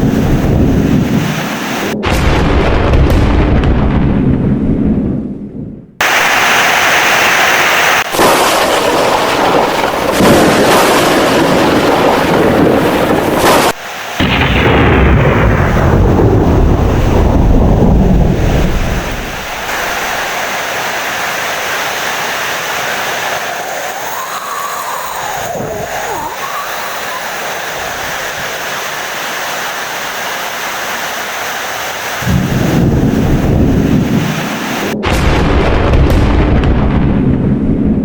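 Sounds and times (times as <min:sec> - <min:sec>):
heavy rain: 0:00.0 - 0:02.0, 0:06.0 - 0:35.6
rolling thunder: 0:00.0 - 0:06.5, 0:08.0 - 0:28.6, 0:32.2 - 0:38.0.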